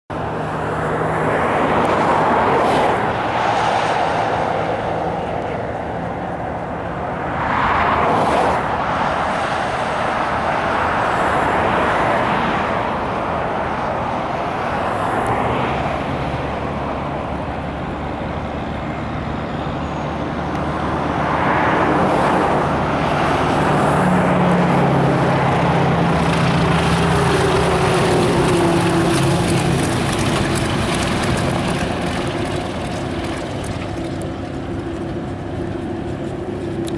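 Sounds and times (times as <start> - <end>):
propeller plane engine droning: 0.1 - 36.9
rushing wind noise: 0.1 - 36.9.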